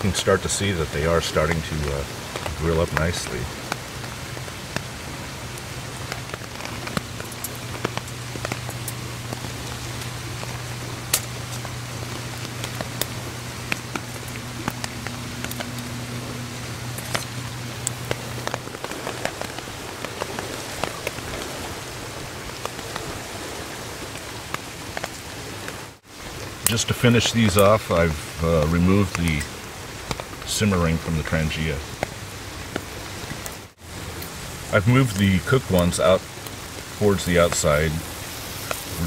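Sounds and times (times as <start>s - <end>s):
rain pattering on tarp: 0.0s - 39.0s
steady low hum: 0.0s - 39.0s.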